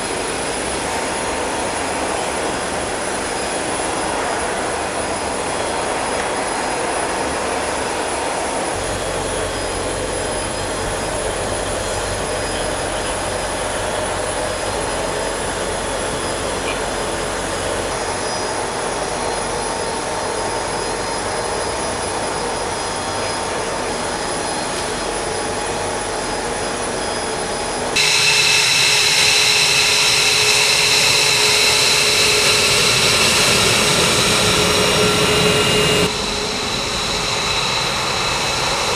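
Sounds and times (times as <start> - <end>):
high turbine whine: 0.0 - 38.9
jet engine noise: 0.0 - 38.9.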